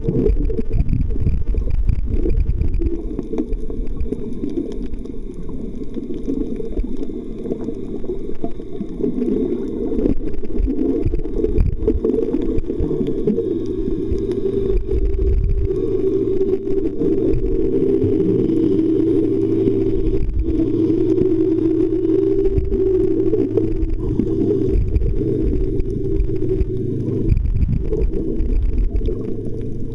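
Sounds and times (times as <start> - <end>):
steady low hum: 0.0 - 29.9
underwater rumbling water: 0.0 - 29.9.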